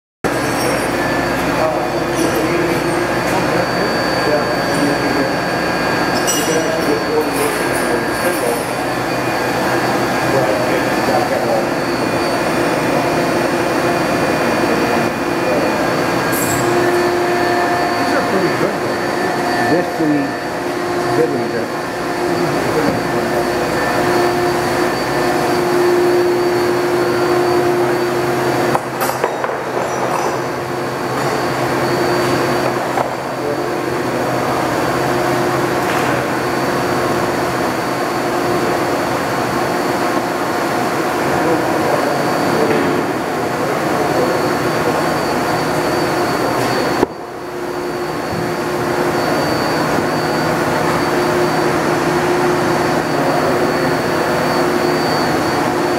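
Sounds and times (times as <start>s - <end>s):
machinery humming and whirring: 0.2s - 55.9s
steady held tones: 0.2s - 55.9s.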